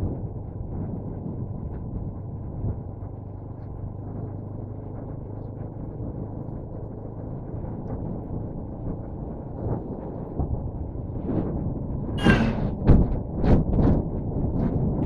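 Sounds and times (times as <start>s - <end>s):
vehicle noise: 0.0s - 15.0s
wind rumble on microphone: 0.0s - 15.0s.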